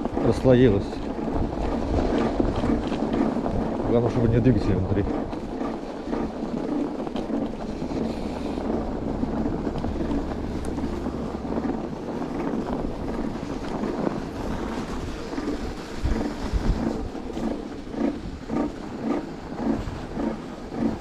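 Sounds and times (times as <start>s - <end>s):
electric scooter running: 0.0s - 21.0s
wind buffeting microphone: 0.0s - 21.0s.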